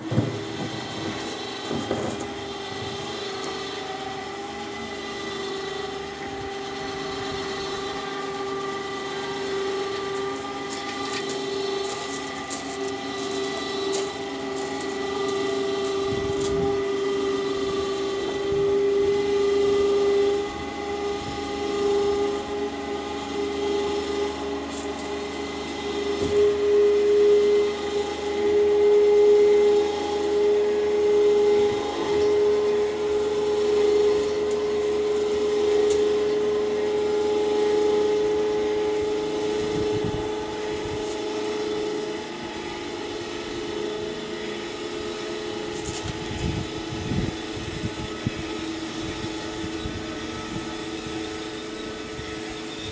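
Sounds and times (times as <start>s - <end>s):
winch motor whining: 0.0s - 52.9s.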